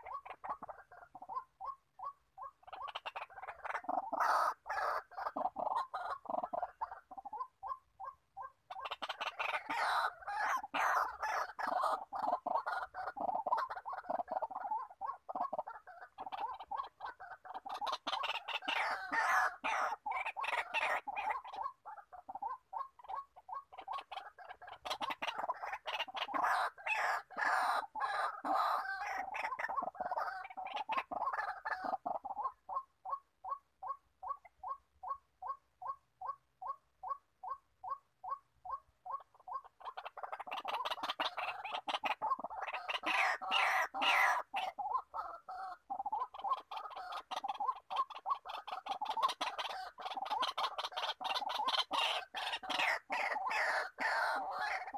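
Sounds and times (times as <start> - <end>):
waterhen croaking: 0.0 - 54.9.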